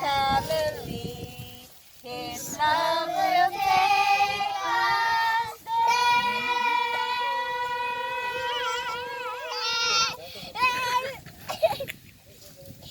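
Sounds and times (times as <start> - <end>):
child singing: 0.0 - 11.2.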